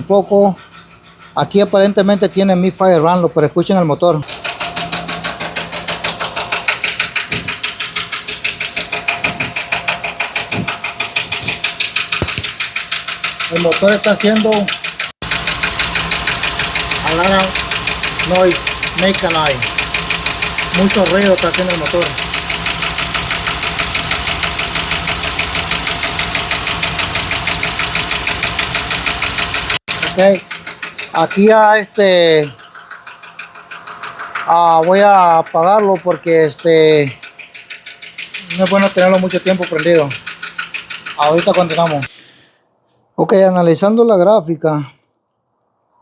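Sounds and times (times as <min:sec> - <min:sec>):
engine knocking: 0:04.2 - 0:42.1.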